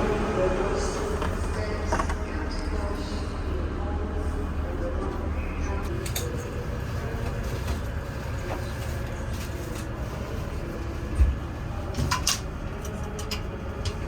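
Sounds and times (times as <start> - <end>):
diesel train idling rumble: 0.0 - 14.0.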